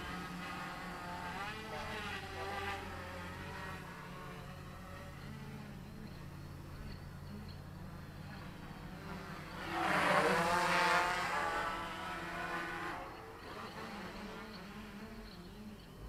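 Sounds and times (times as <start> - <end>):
quadcopter buzzing: 0.0 - 16.0.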